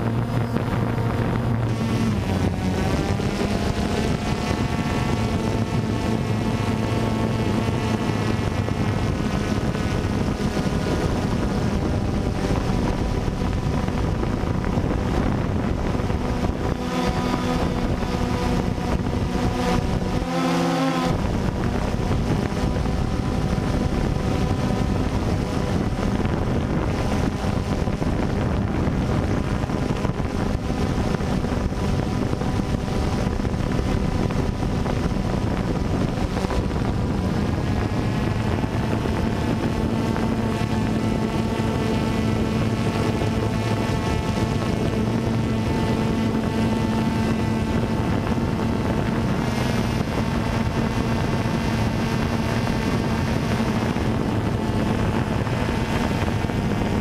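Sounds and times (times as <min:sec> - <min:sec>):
drone motors and propellers: 0:00.0 - 0:57.0
wind noise on microphone: 0:00.0 - 0:57.0.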